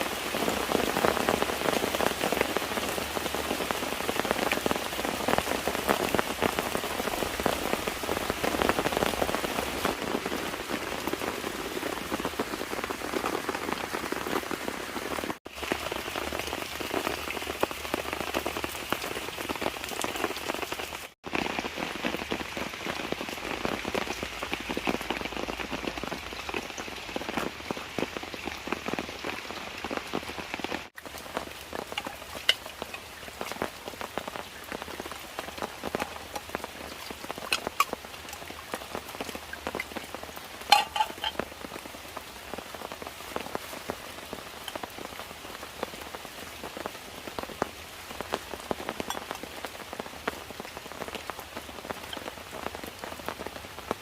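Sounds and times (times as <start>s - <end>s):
rain patter on a surface: 0.0s - 54.0s.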